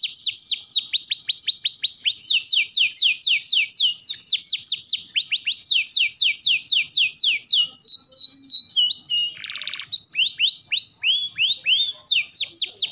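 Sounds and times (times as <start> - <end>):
canary singing: 0.0 - 12.9.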